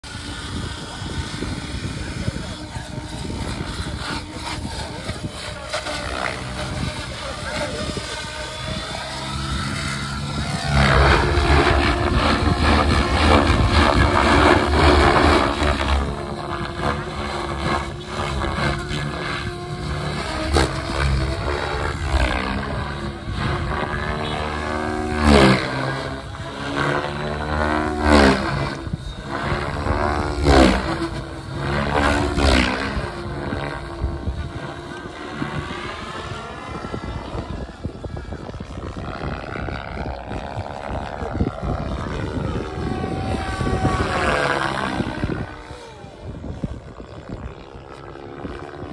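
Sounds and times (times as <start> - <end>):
model helicopter engine and rotors: 0.0 - 48.9.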